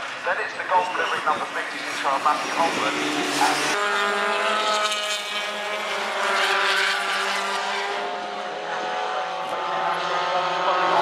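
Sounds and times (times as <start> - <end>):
race car engines at high revs: 0.0 - 11.0.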